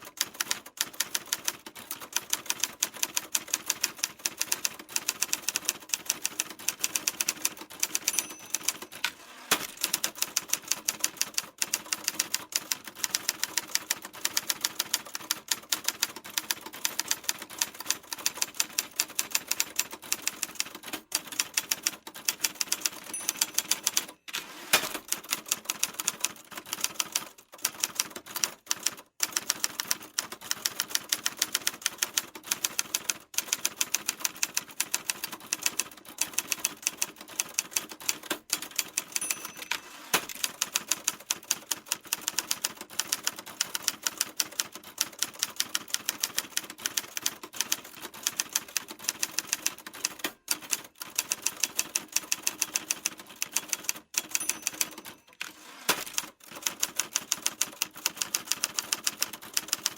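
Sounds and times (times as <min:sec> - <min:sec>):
typewriter keys clicking: 0:00.1 - 0:59.9.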